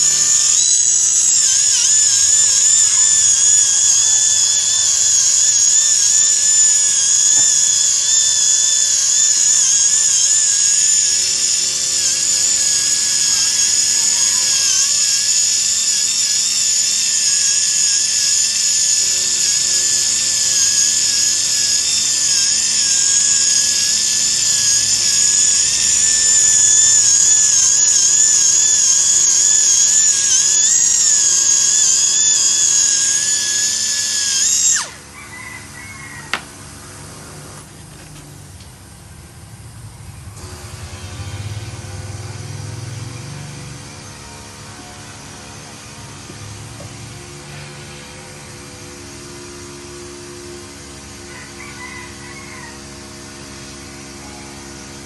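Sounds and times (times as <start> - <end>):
polishing handpiece whining on steel: 0.0 - 38.6, 40.0 - 55.0.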